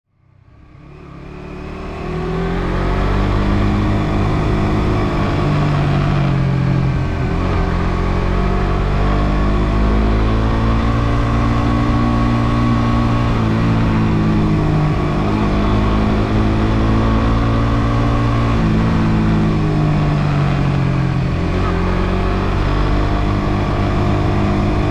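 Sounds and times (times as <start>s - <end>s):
motorcycle engine revving: 0.6s - 24.9s.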